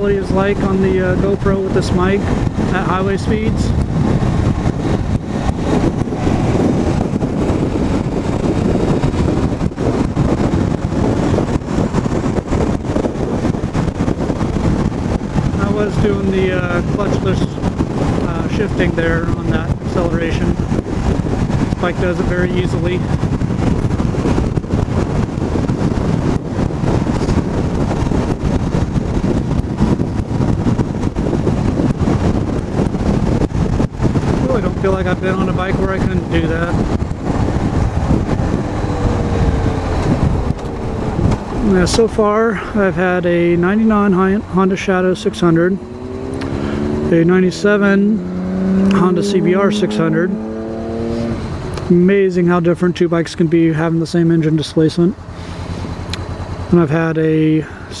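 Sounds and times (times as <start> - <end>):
motorcycle engine accelerating: 0.0 - 51.9
wind rush on microphone: 0.0 - 58.0.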